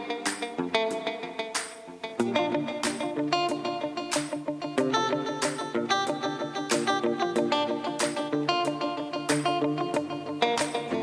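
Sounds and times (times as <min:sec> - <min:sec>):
plucked-string notes over beat: 0:00.0 - 0:11.0.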